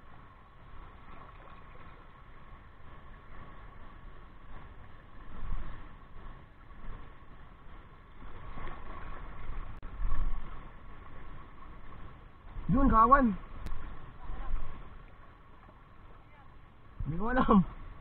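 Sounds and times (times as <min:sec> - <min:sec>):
steady motor-like hum: 0:00.0 - 0:18.0.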